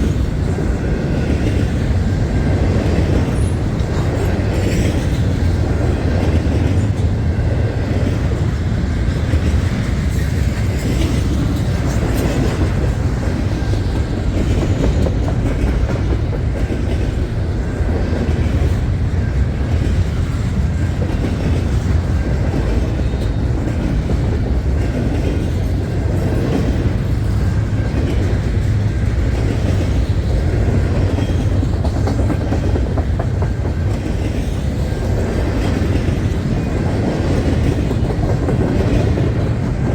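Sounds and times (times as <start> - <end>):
freight train rumbling past: 0.0 - 39.9
train wheels clacking over rail joints: 0.0 - 39.9.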